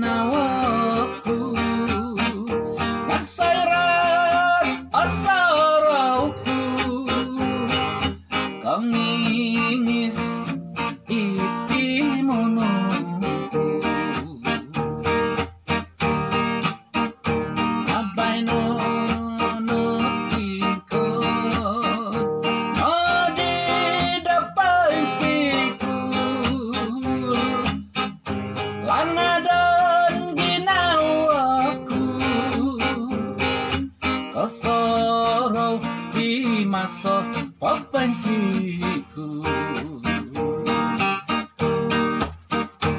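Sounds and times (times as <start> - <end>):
man singing: 0.0 - 15.4, 17.3 - 41.7
acoustic guitar strumming: 0.0 - 42.9.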